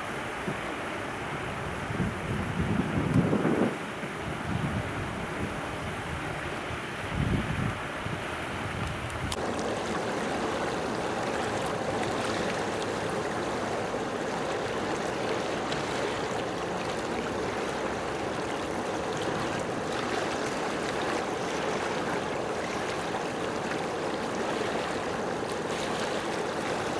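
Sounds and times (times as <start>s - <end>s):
moving water rushing: 0.0s - 26.9s.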